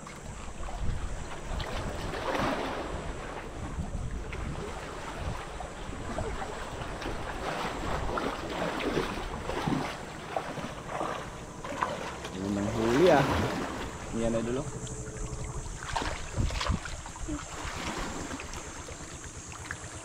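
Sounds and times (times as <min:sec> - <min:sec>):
sea water splashing: 0:00.0 - 0:20.0
wind on microphone: 0:00.2 - 0:09.9, 0:12.6 - 0:19.2.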